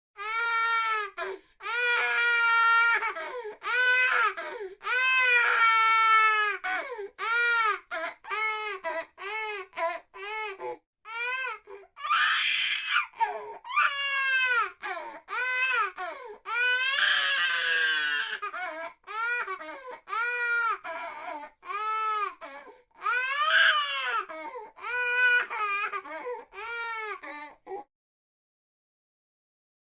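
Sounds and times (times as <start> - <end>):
baby crying: 0.2 - 27.8.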